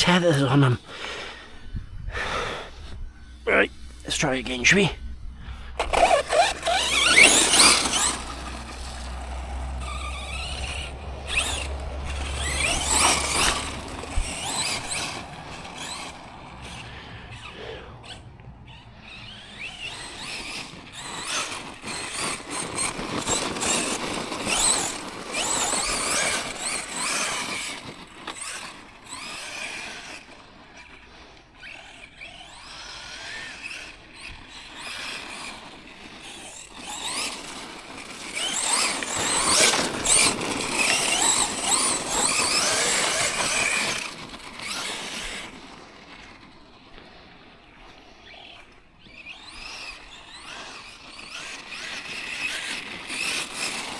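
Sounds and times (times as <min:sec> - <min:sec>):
toy truck motor whining: 0:00.0 - 0:53.9.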